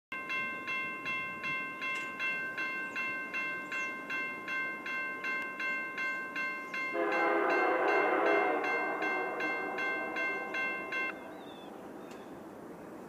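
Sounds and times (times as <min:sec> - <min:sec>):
steady high tone: 0:00.1 - 0:11.3
railroad crossing bell ringing: 0:00.1 - 0:11.6.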